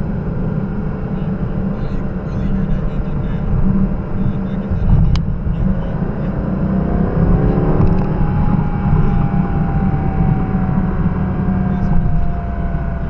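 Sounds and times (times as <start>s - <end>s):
car engine pulling: 0.0s - 13.0s
road and wind noise: 0.0s - 13.0s.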